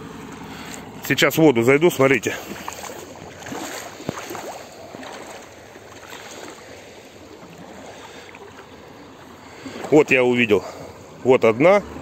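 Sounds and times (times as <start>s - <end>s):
seawater sloshing around legs: 0.4s - 11.2s.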